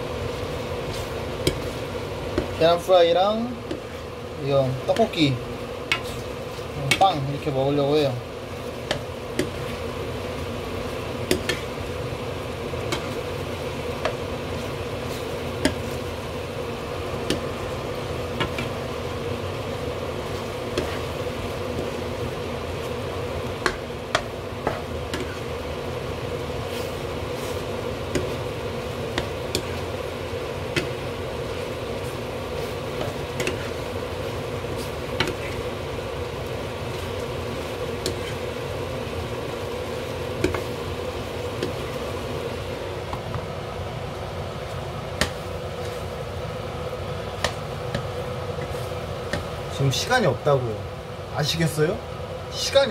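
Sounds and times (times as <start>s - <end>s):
extractor fan humming: 0.0s - 52.9s
food simmering and sizzling in pan: 0.0s - 52.9s.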